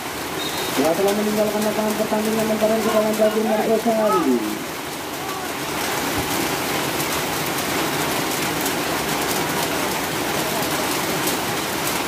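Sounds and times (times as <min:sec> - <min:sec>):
heavy rain pouring: 0:00.0 - 0:12.0
rain drop ticks: 0:00.0 - 0:12.0.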